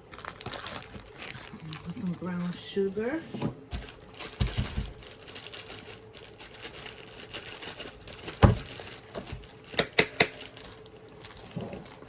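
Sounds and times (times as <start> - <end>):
rustling and crinkling: 0.0 - 12.0.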